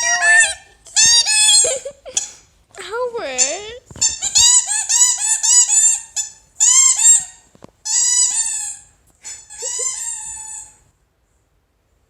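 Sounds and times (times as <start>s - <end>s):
squeaky dog toy squeaking: 0.0s - 2.4s, 3.2s - 10.8s.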